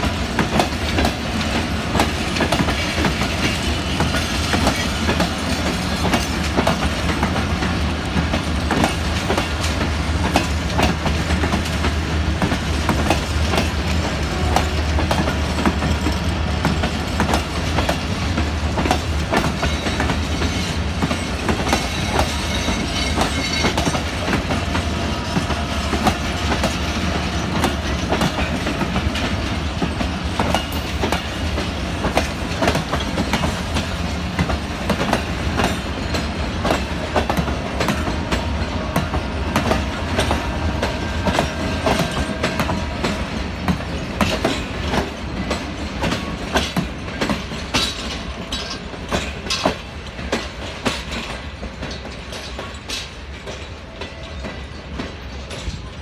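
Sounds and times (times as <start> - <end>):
train coaches rumbling past: 0.0 - 56.0
wheels clicking over rail joints: 0.0 - 56.0.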